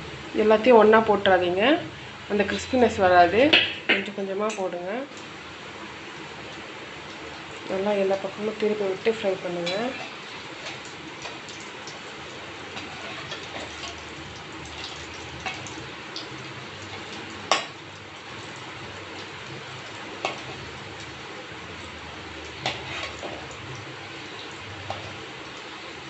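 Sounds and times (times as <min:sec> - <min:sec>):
food deep-frying in hot oil: 0:00.0 - 0:26.0.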